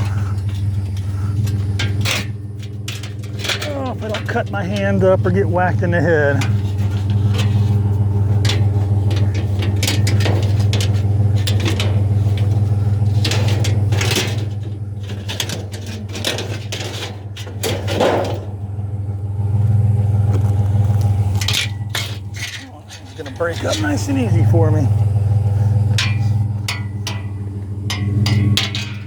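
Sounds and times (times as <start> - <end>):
metal clanks and bangs: 0.0 - 29.0
vehicle engine idling: 0.0 - 29.0.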